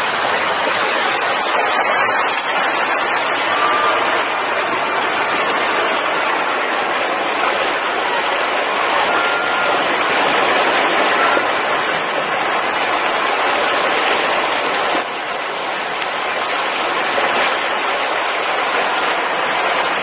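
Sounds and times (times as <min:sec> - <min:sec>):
water rushing over road: 0:00.0 - 0:20.0.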